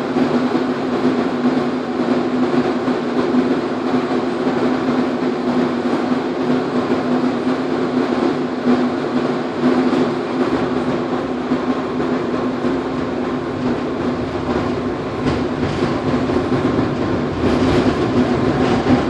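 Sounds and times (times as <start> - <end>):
tram hum and rumble: 0.0 - 19.0.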